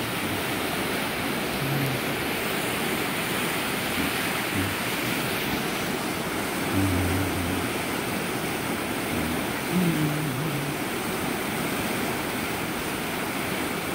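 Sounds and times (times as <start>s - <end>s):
river rushing over rapids: 0.0s - 13.9s.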